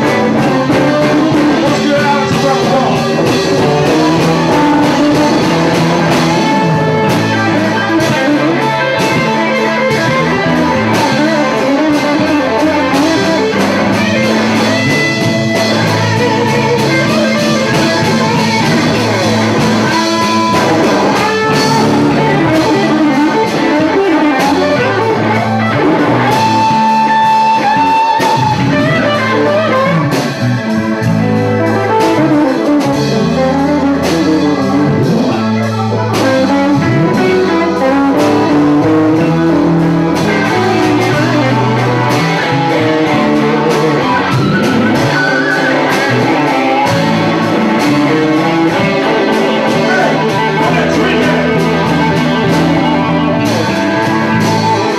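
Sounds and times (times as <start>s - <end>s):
bass: 0.0s - 54.9s
drums: 0.0s - 54.9s
electric guitar soloing: 0.0s - 54.9s.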